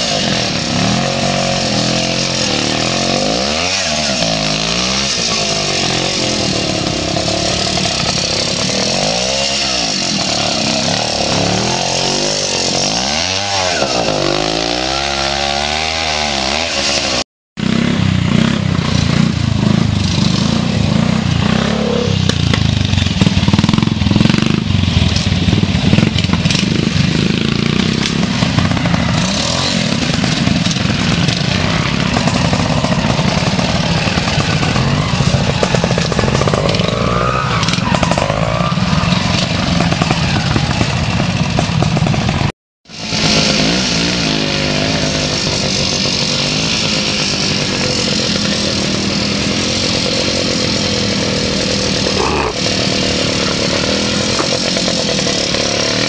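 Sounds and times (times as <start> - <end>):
higher-pitched bike engine revving: 0.0 - 56.0
motorcycle engines revving: 0.0 - 56.0.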